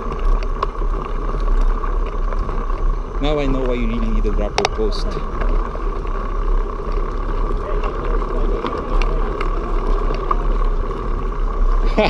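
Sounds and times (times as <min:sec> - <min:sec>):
bike rattling: 0:00.0 - 0:12.0
bike tyres rumbling on dirt: 0:00.0 - 0:12.0.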